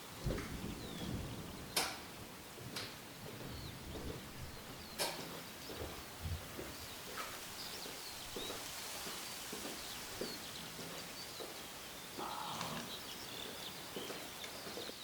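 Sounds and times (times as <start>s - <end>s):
birds chirping: 0.5s - 15.0s.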